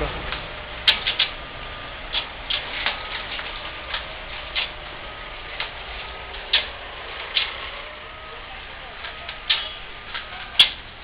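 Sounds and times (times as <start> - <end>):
machine clicks and clacks: 0.0 - 1.4, 2.1 - 7.8, 8.9 - 11.0
faint whine: 0.0 - 11.0.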